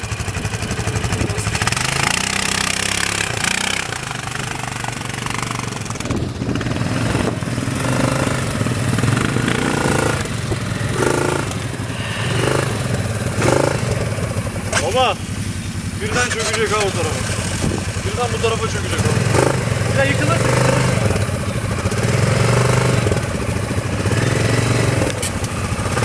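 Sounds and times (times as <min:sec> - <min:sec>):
quad bike engine revving: 0:00.0 - 0:26.0.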